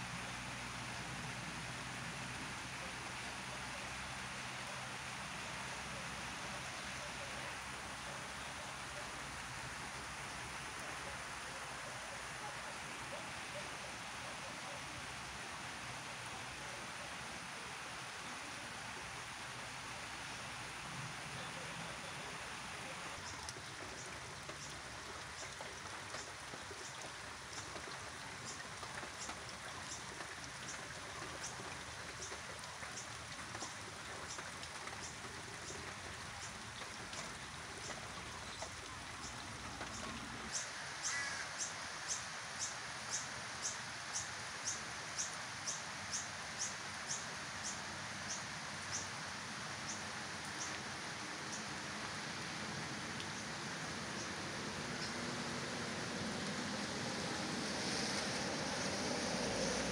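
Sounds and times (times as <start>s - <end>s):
rain falling on grass: 0.0s - 59.9s.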